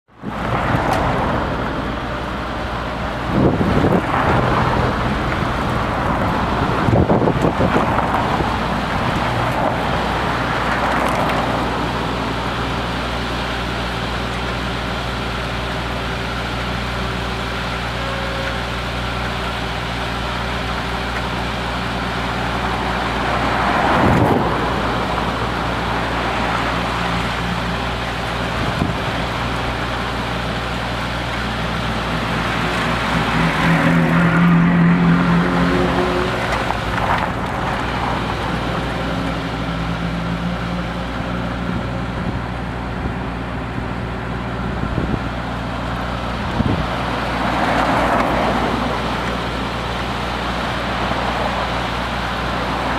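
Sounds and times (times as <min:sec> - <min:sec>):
traffic engine hum: 0:00.0 - 0:52.9
vehicles passing: 0:00.1 - 0:52.9.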